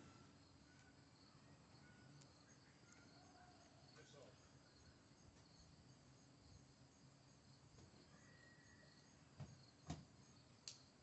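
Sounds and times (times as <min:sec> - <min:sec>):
faint insects chirping: 0:00.0 - 0:11.0.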